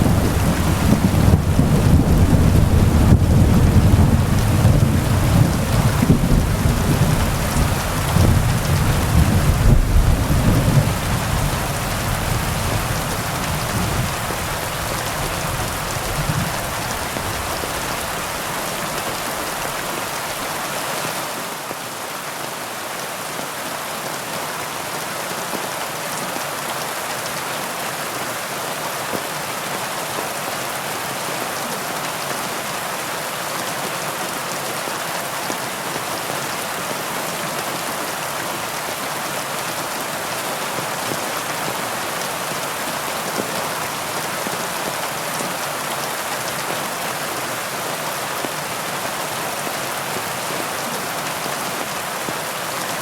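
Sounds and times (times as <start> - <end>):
heavy rain falling on leaves: 0.0 - 53.0.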